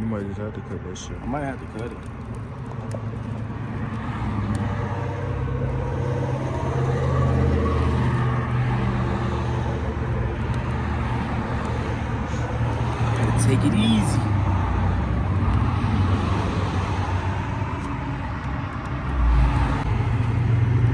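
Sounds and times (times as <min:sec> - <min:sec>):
vehicle engine humming: 0:00.0 - 0:20.9.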